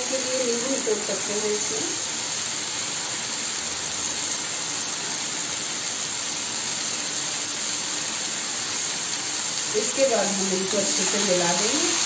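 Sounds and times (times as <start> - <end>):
beans sizzling in iron pan: 0.0 - 12.0.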